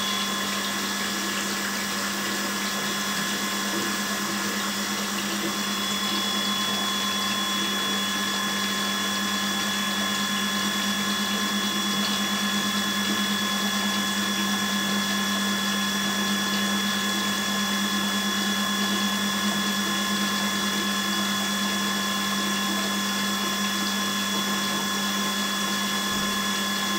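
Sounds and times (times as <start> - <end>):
water pouring into toilet bowl: 0.0 - 24.4
electric pump humming: 0.0 - 26.9.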